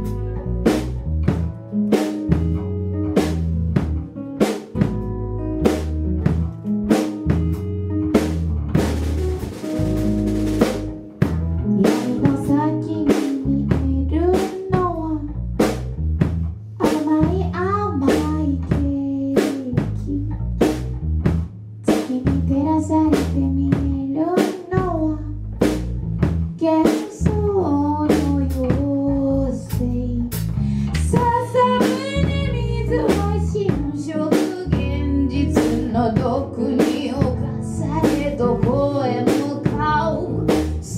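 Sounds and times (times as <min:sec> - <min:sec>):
live band music: 0:00.0 - 0:40.9.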